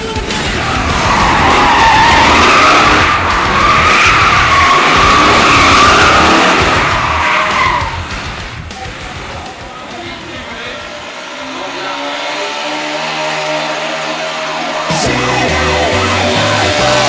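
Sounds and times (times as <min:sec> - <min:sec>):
car engine: 0:00.0 - 0:17.0
car tyres squealing: 0:00.2 - 0:17.0.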